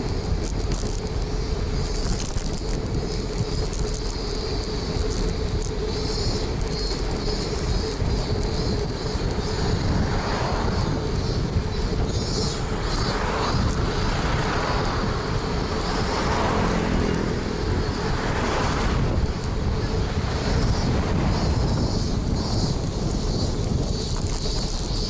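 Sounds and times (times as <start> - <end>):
vehicles passing: 0.0 - 25.0
wind noise: 0.0 - 25.0.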